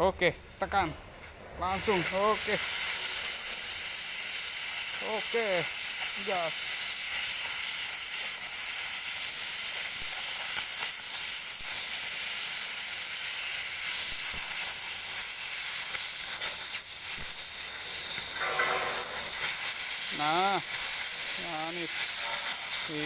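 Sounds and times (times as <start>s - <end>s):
cutting torch hissing: 0.0s - 23.0s.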